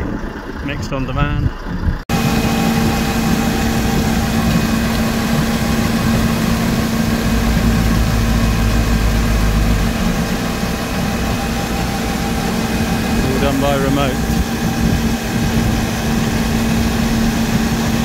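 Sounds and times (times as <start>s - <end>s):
concrete mixer lorry drone: 0.0s - 18.0s
deep machine rumble: 0.0s - 18.0s.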